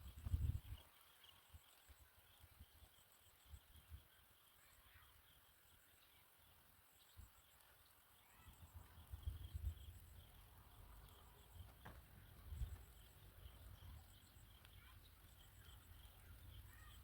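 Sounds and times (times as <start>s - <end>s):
faint high-pitched chirps: 0.0s - 17.0s.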